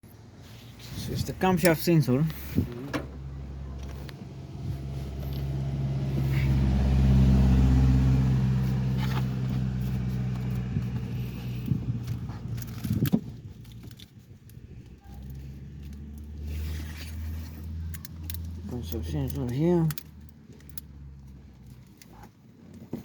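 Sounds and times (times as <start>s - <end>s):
car engine humming: 0.2s - 22.1s.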